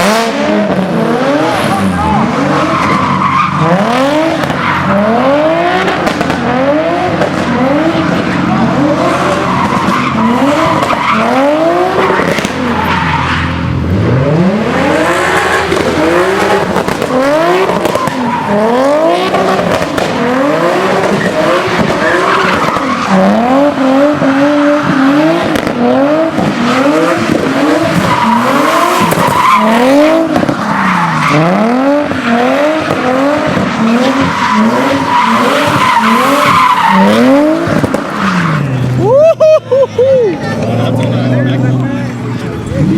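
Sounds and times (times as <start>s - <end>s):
car engine revving: 0.0s - 39.2s, 40.3s - 42.9s
tire squeal: 0.0s - 41.5s.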